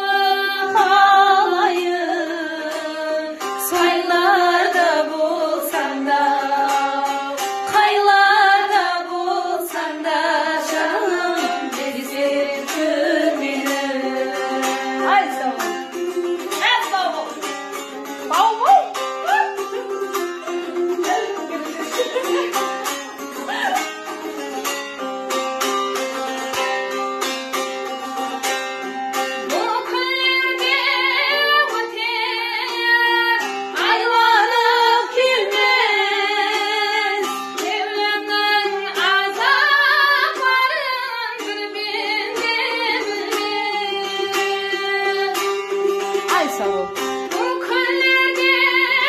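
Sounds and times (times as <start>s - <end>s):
woman singing with vibrato: 0.0s - 17.5s, 18.3s - 22.7s, 23.4s - 23.8s, 29.4s - 49.0s
strummed lute: 0.0s - 49.0s.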